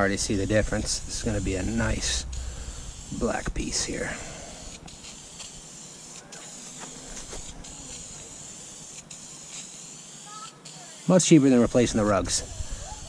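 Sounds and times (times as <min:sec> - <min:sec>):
aerosol spray can hissing: 0:00.0 - 0:13.0.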